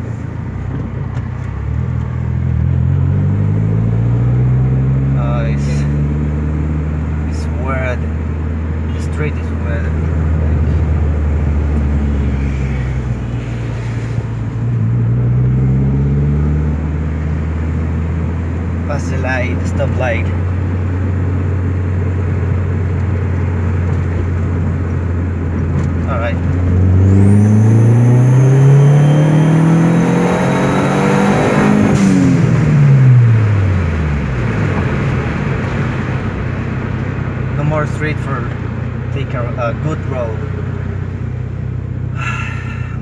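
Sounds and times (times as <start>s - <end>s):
car engine drone: 0.0s - 43.0s.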